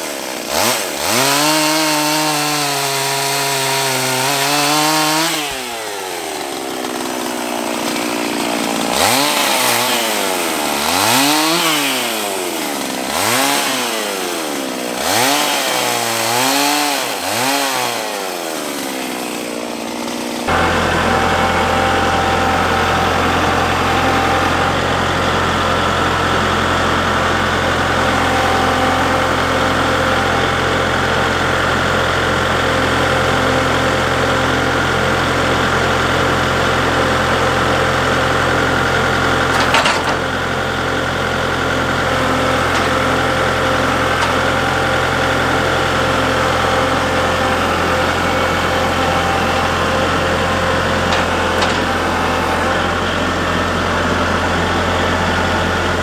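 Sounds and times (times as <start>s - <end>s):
engine idling: 3.2s - 15.4s, 18.9s - 56.0s.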